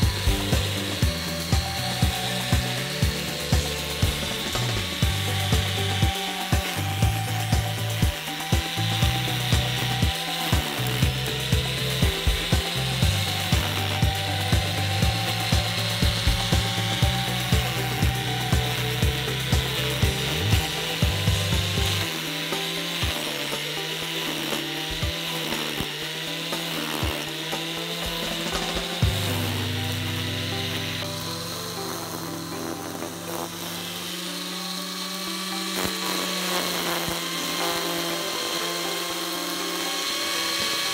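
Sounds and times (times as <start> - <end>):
angle grinder motor whining: 0.0 - 40.9
blade cutting dry grass: 0.0 - 40.9.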